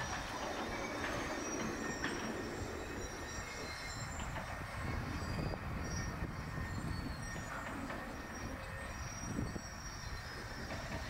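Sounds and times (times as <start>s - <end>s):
faint high-pitched squeals: 0.0s - 11.0s.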